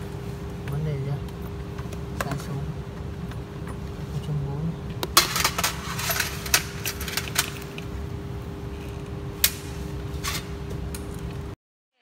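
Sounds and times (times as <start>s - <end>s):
low hum and rumble: 0.0s - 11.6s.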